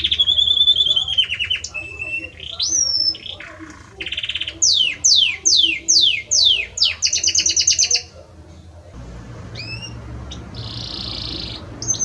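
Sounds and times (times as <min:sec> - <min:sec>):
canary singing: 0:00.0 - 0:08.4, 0:09.5 - 0:12.0.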